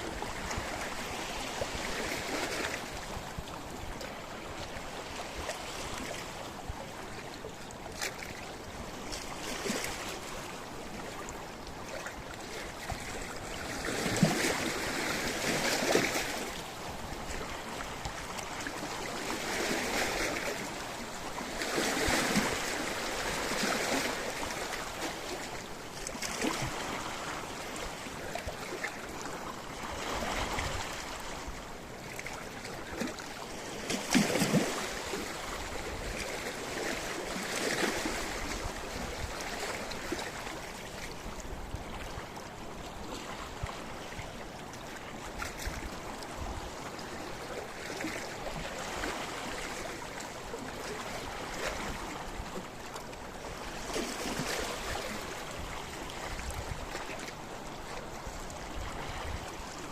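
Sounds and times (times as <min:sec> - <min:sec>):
waves against rocky shore: 0:00.0 - 0:59.9.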